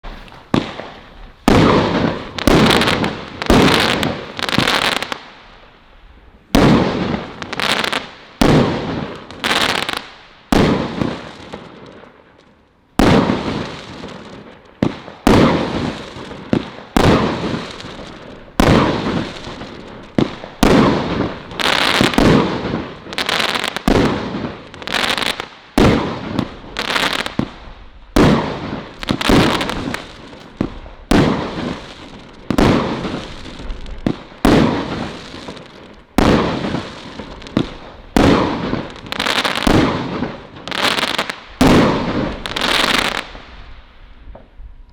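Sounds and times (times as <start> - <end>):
firework bangs with crackling: 0.0 - 5.7, 6.4 - 44.6.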